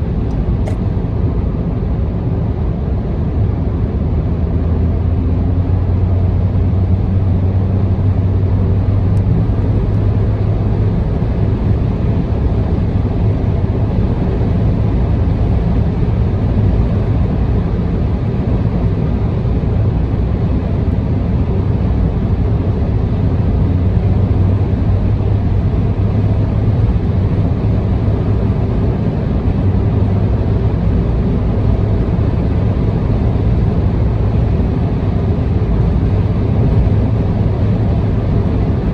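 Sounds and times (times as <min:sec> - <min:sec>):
car tyre and engine noise: 0:00.0 - 0:38.9
constant low hum: 0:00.0 - 0:38.9.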